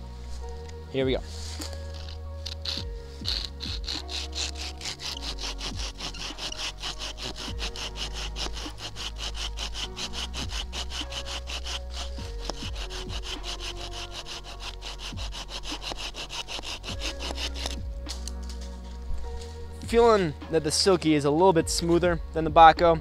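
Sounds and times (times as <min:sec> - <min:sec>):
folding saw cutting branch: 0:00.3 - 0:20.2.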